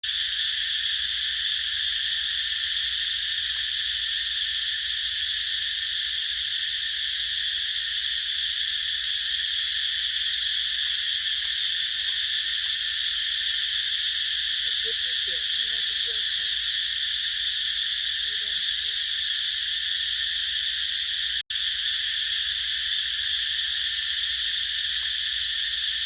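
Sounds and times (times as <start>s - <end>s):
cicadas buzzing chorus: 0.0s - 26.0s.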